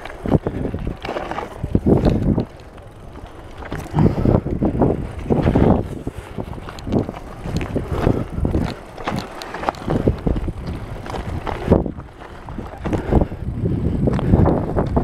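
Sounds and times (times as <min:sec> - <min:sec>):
tyres crunching over stones: 0:00.0 - 0:13.2
bike clattering over bumps: 0:00.0 - 0:15.0
wind buffeting microphone: 0:00.0 - 0:15.0.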